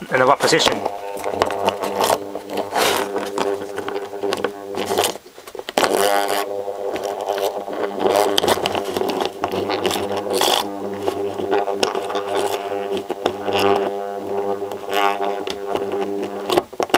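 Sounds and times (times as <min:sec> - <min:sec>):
small electric motor buzzing: 0:00.6 - 0:05.2, 0:05.8 - 0:16.7.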